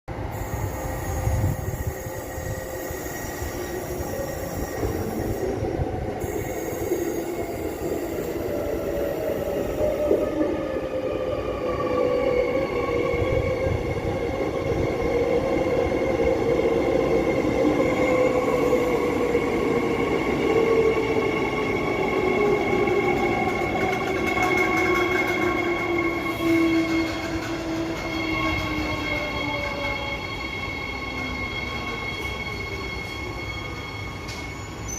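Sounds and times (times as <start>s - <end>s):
train whine: 0.1s - 34.9s.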